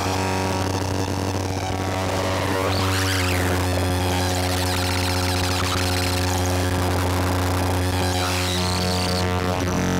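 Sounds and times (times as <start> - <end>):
low synthesizer drone: 0.0 - 9.9.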